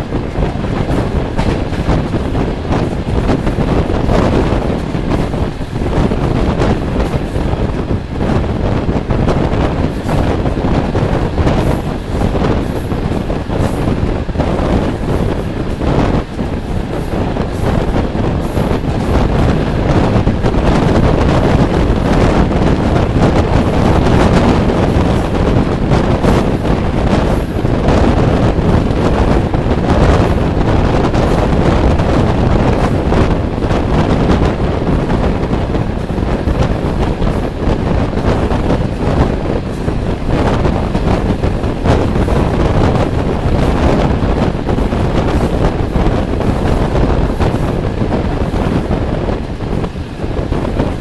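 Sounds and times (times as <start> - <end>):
train carriage rumbling on rails: 0.0 - 51.0
wind rushing over microphone: 0.0 - 51.0.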